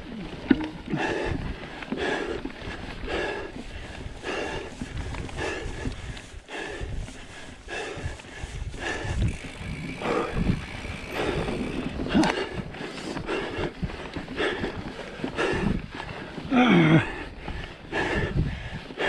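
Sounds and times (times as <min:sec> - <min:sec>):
bike rolling over dirt: 0:00.0 - 0:19.0
person panting hard: 0:00.0 - 0:19.0.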